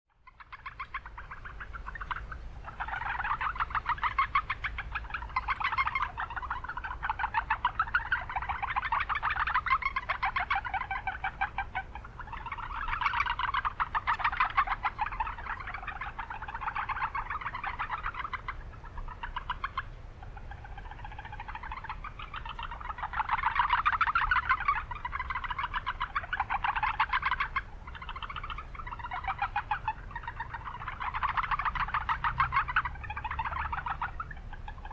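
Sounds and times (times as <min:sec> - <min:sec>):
frogs calling in chorus: 0:00.1 - 0:34.9
low urban background rumble: 0:00.1 - 0:34.9.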